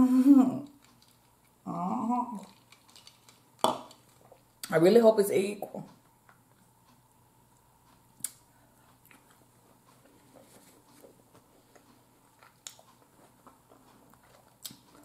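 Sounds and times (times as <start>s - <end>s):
faint chewing: 0.6s - 1.7s, 2.3s - 4.7s, 5.9s - 15.0s.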